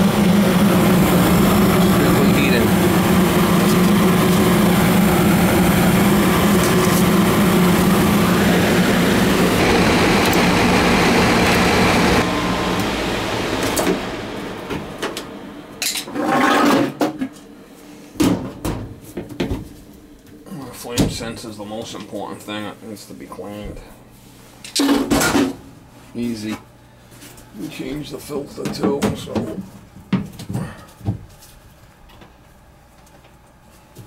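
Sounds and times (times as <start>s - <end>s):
furnace blower humming: 0.0s - 34.0s.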